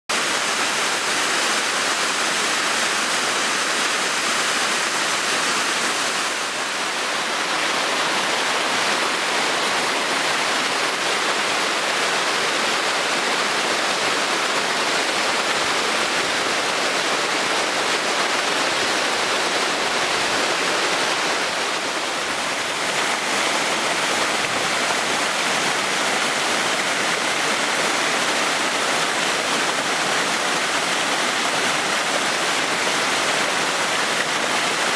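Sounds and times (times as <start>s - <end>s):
stream churning over boulders: 0.1s - 34.9s
waterfall rushing onto rocks: 0.1s - 34.9s.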